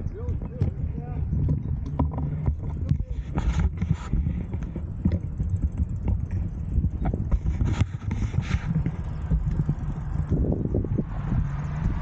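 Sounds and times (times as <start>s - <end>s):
bike knocks and rattles: 0.0s - 10.9s
wind buffeting microphone: 0.0s - 12.0s.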